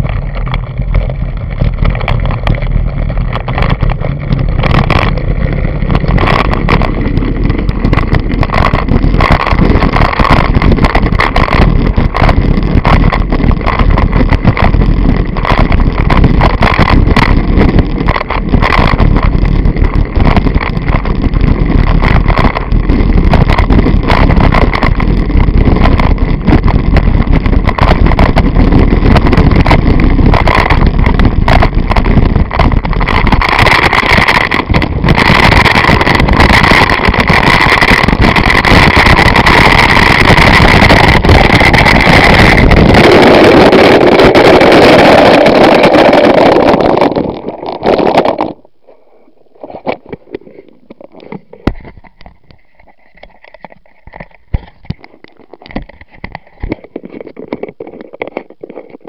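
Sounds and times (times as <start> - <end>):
skateboard wheels rolling over gravel: 0.0 - 59.0
wind on microphone: 0.0 - 59.0.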